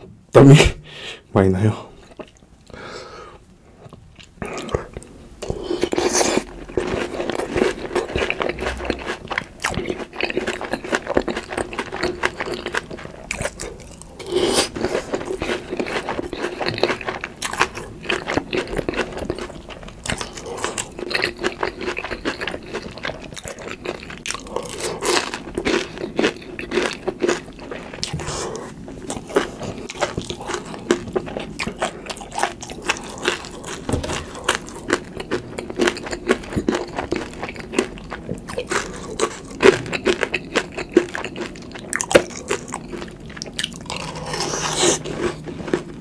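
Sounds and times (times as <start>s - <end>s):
wet chewing: 3.8s - 46.0s
crunchy bites of fried food: 5.4s - 28.4s, 29.0s - 46.0s.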